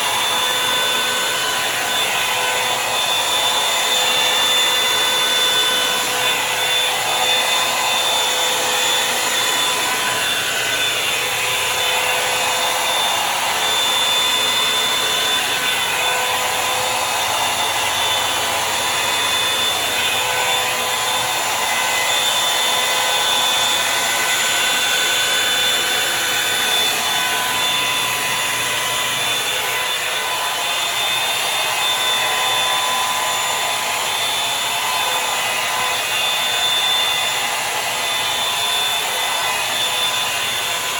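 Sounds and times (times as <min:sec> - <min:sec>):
hot-air brush dryer running: 0:00.0 - 0:40.9.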